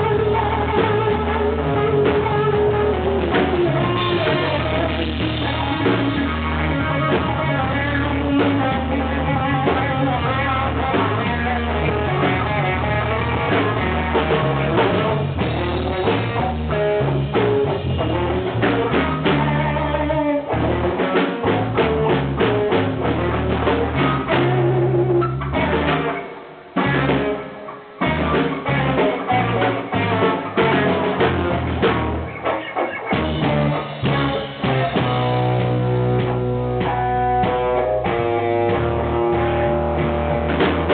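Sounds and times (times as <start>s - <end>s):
blues band playing: 0.0s - 40.9s.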